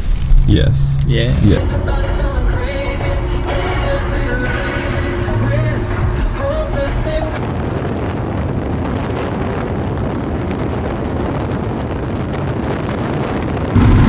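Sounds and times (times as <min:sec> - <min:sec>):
low engine drone: 0:00.0 - 0:12.6, 0:13.6 - 0:14.0
wind and road noise: 0:00.0 - 0:14.0.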